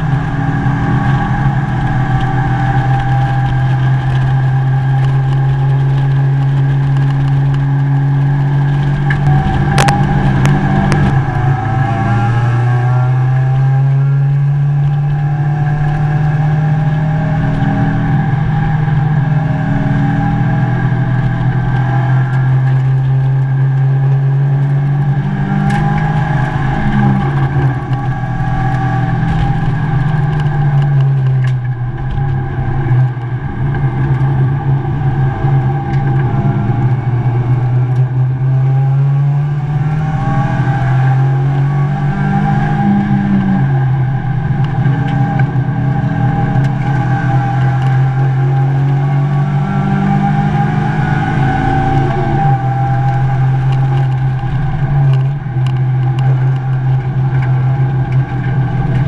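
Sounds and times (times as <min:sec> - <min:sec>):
race car engine from cockpit: 0:00.0 - 0:59.0
road rumble: 0:00.0 - 0:59.0.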